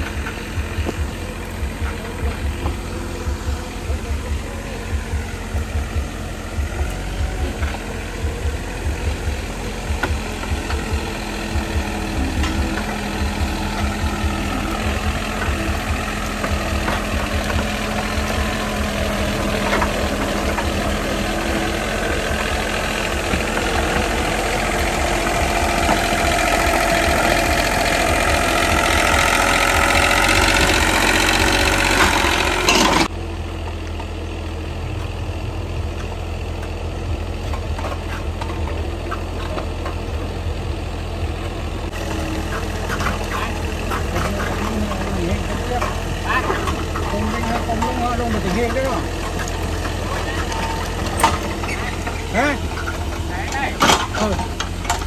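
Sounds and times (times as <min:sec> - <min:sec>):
engine pulsing: 0:00.0 - 0:55.0.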